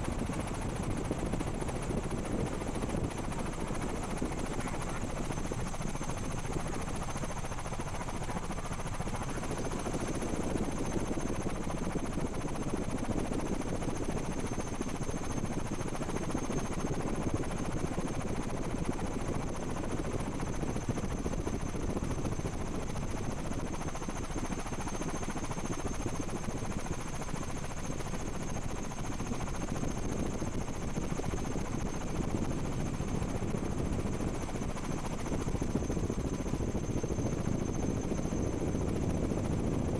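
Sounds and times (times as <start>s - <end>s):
helicopter rotor whirring: 0.0s - 39.9s.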